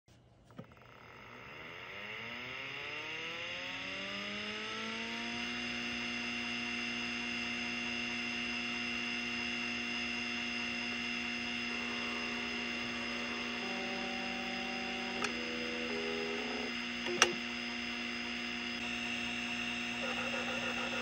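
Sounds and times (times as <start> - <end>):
hard drive motor whine: 0.5 - 21.0.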